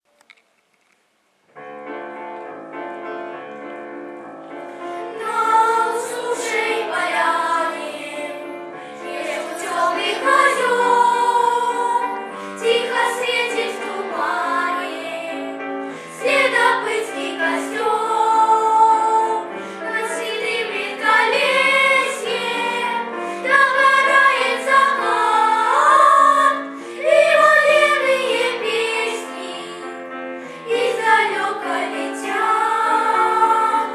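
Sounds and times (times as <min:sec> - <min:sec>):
vocal ensemble singing: 0:05.1 - 0:33.9.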